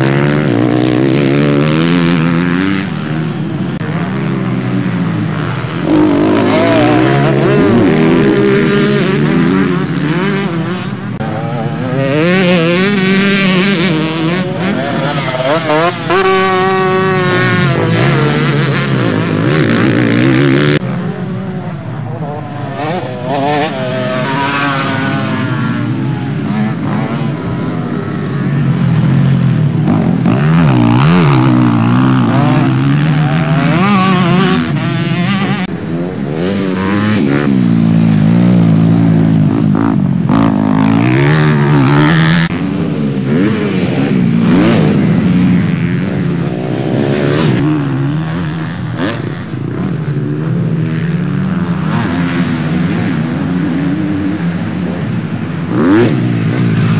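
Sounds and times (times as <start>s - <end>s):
motocross bike engines revving: 0.0s - 56.9s.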